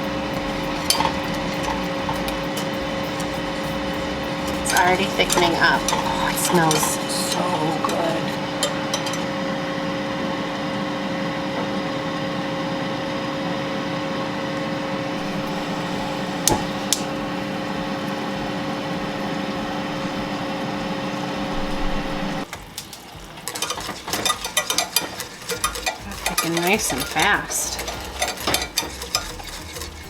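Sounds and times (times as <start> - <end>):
utensil clinking and scraping in pan: 0.0 - 9.5, 15.2 - 30.0
kitchen appliance fan humming: 0.0 - 30.0.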